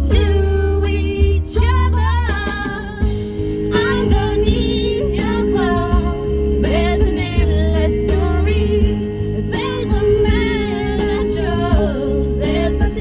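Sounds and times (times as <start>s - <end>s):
steady bass line: 0.0s - 13.0s
woman singing pop ballad: 0.0s - 13.0s.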